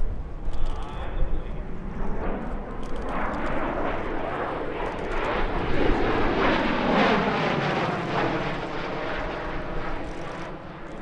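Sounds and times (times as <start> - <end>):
airplane flying past: 0.1 - 11.0.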